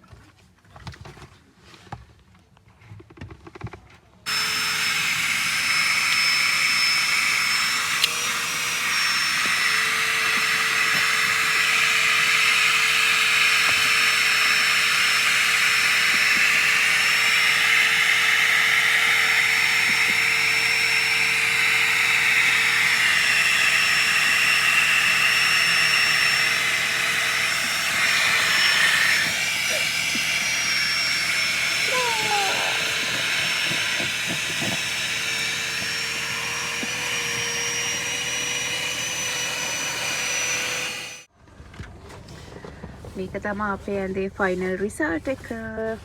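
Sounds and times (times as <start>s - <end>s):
electric air pump whining: 4.3s - 41.3s.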